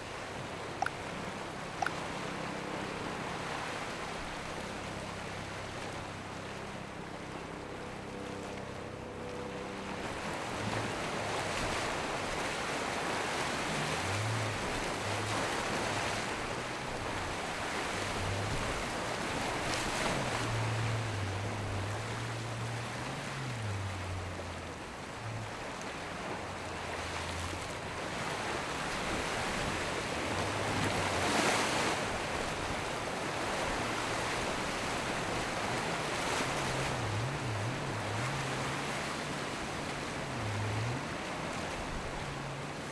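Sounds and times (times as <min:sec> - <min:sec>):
distant boat engines droning: 0:00.0 - 0:42.9
rough surf: 0:00.0 - 0:42.9.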